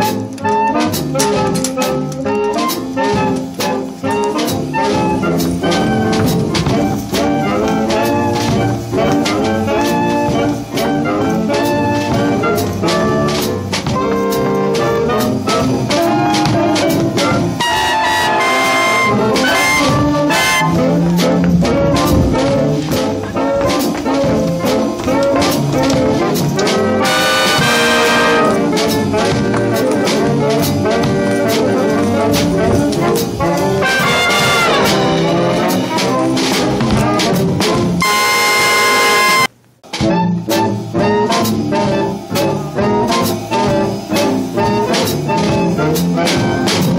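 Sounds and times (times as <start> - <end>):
steady drum beat: 0.0 - 46.9
up-tempo brass jazz: 0.0 - 46.9.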